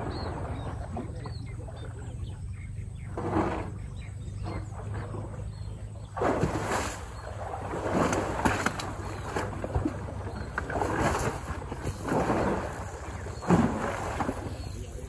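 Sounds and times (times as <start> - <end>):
water sloshing and splashing: 0.0 - 2.2, 3.1 - 15.0.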